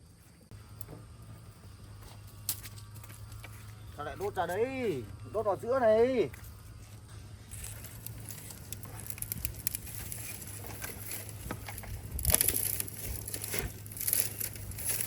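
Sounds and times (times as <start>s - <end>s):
dry kindling crackling: 0.0s - 15.0s.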